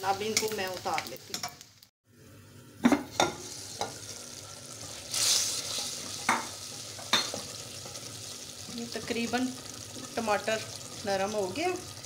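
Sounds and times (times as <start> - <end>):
sauce sizzling while stirred: 0.0 - 12.0.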